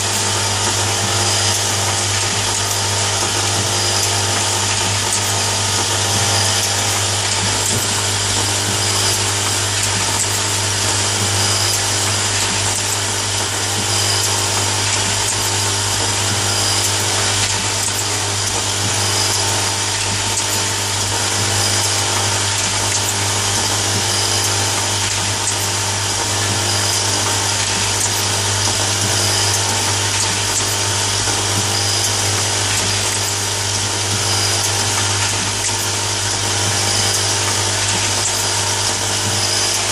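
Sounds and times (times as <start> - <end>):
machine motor humming: 0.0 - 39.9.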